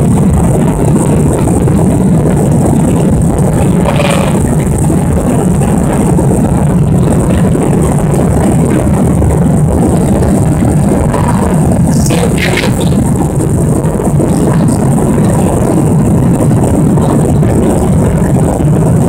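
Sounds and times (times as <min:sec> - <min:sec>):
jet engine and airflow rush: 0:00.0 - 0:19.0.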